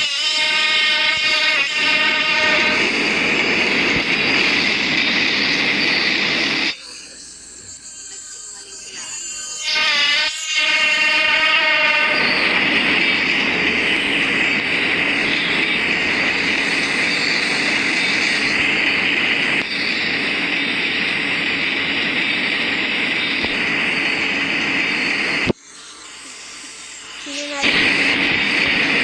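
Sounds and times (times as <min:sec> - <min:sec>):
train rail noise with hiss: 0:00.0 - 0:29.0.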